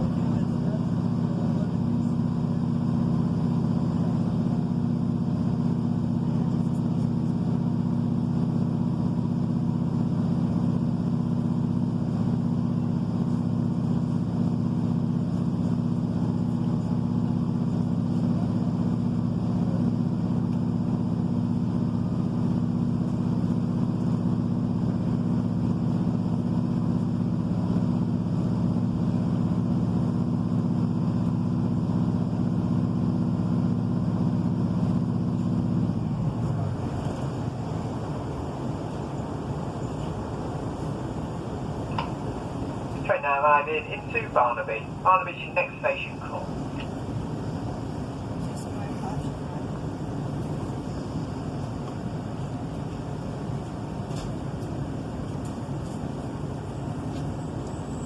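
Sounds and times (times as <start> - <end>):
diesel engine drone: 0.0 - 58.0
train running rumble: 0.0 - 58.0.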